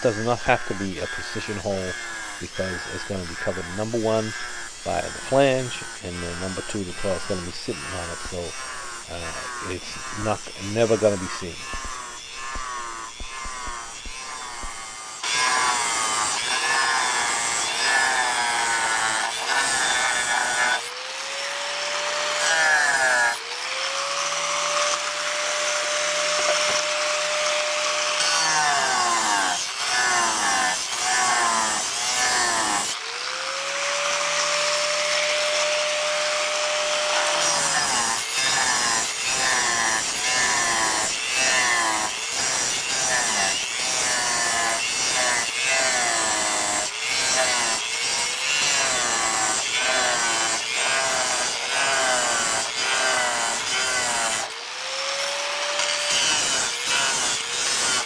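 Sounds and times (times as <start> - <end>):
angle grinder cutting tile: 0.0 - 58.0.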